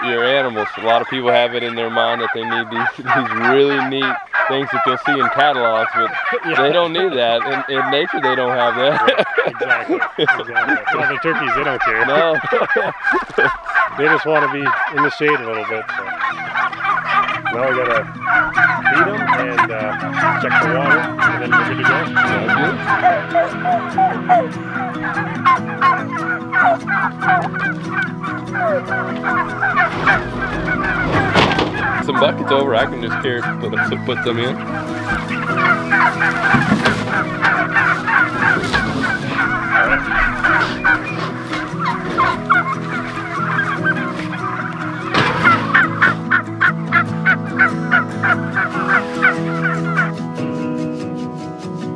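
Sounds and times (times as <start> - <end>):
turkeys chirping and yelping: 0.0 - 50.6.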